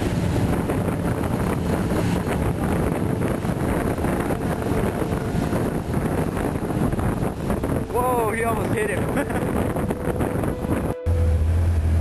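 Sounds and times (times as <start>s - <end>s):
wind buffeting microphone: 0.0s - 11.4s
vehicle engines running: 0.0s - 12.0s.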